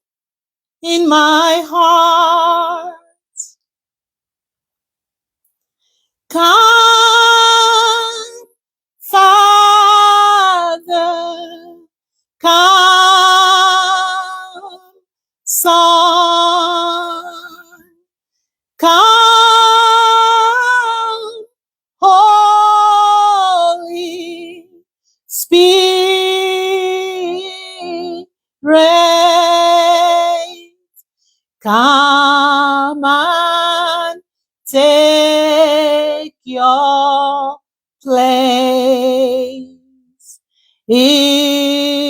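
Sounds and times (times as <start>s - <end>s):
woman singing without words: 0.8s - 3.6s, 6.3s - 18.0s, 18.8s - 42.0s.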